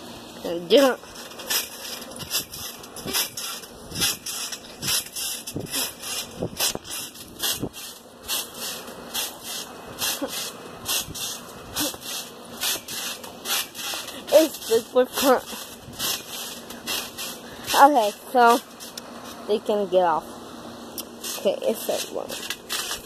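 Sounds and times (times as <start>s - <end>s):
trampoline bouncing thuds: 0.4s - 20.3s.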